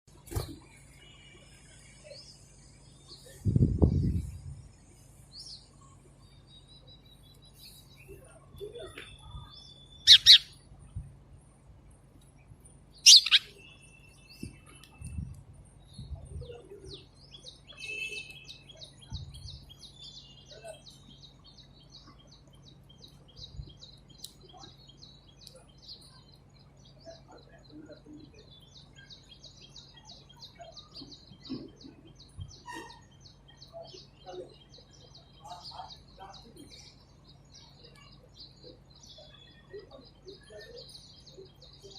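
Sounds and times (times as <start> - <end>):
small bird chirping: 5.3 - 10.6, 12.9 - 41.9.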